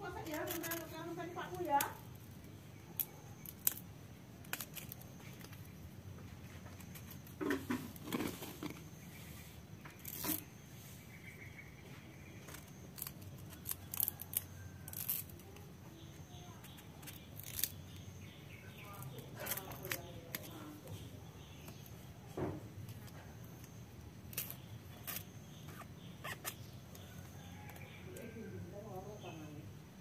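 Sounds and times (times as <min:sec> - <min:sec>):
fibre peeled by hand: 0:00.0 - 0:11.3, 0:11.9 - 0:28.3
knife cutting and scraping fibre: 0:00.1 - 0:05.7, 0:06.6 - 0:10.6, 0:12.4 - 0:22.0, 0:22.8 - 0:27.9.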